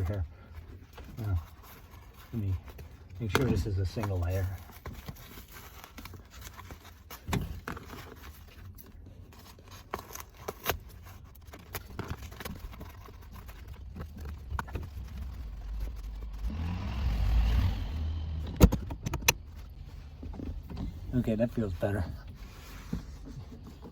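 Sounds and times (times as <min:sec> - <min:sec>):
carpet scraping and rustling: 0:00.0 - 0:23.9.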